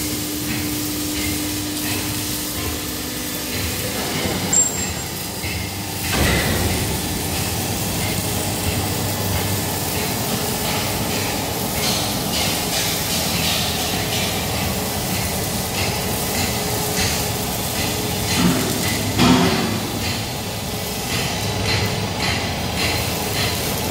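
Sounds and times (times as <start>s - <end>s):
factory machinery running: 0.0s - 23.9s.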